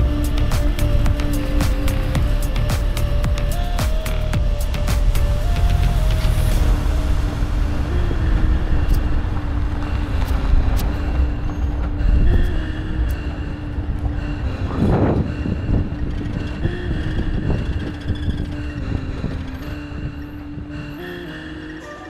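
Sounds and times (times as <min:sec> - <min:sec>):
held engine tone: 0:00.0 - 0:22.0
vehicle engine rumbling: 0:00.0 - 0:22.0.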